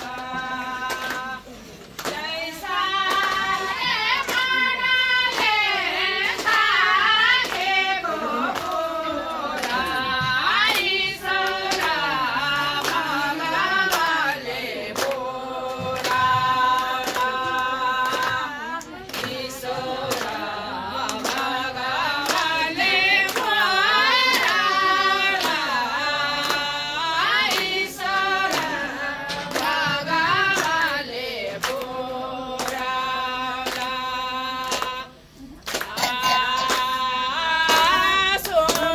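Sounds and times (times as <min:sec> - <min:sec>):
group singing: 0:00.0 - 0:38.9
rhythmic hand clapping: 0:00.0 - 0:38.9.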